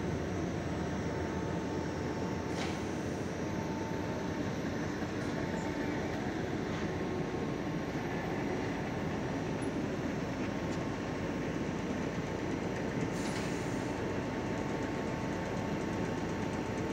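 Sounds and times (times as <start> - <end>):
printing machine drone: 0.0 - 16.9.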